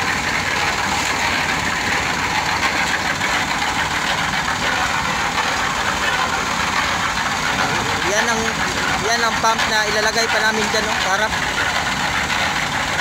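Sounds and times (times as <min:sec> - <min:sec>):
concrete mixer engine running: 0:00.0 - 0:13.0.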